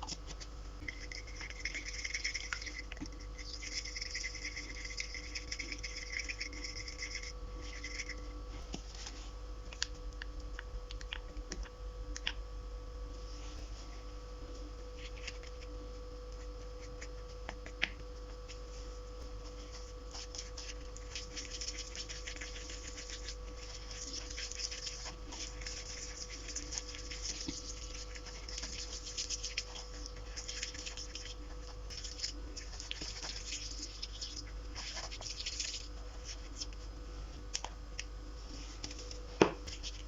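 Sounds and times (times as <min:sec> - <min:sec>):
electrical hum: 0:00.0 - 0:40.0.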